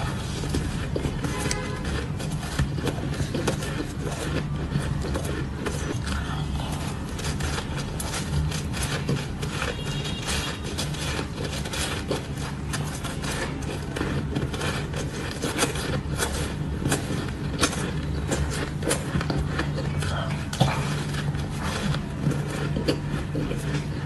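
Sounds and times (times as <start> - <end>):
crunching shaved ice chewing: 0.0 - 24.0
low steady hum: 0.0 - 24.0.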